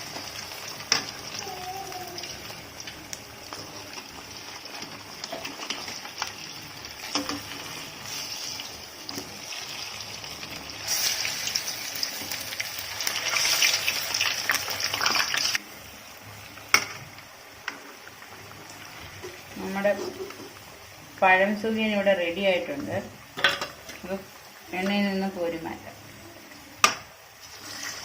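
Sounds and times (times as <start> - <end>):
food deep-frying in hot oil: 0.0 - 28.0.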